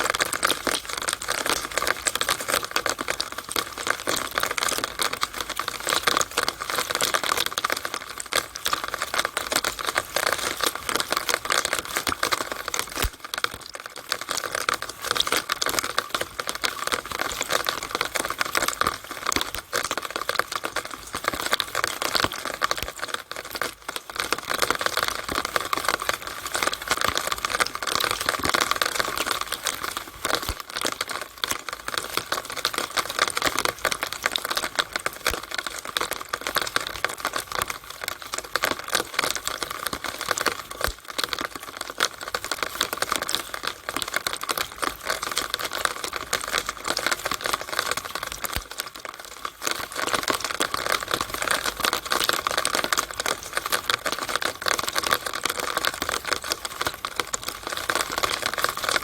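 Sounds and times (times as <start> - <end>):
rainwater running through drainpipe: 0.0 - 59.0.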